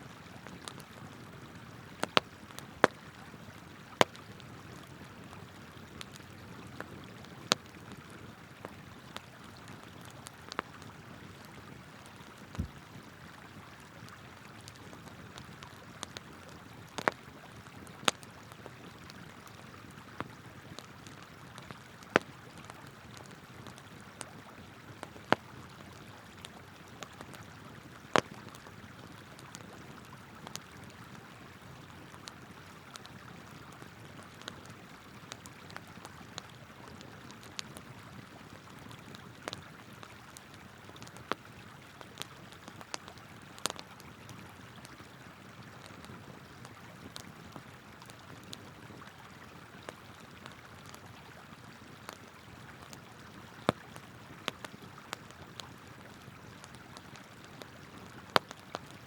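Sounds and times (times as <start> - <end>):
campfire crackling and popping: 0.1 - 59.0.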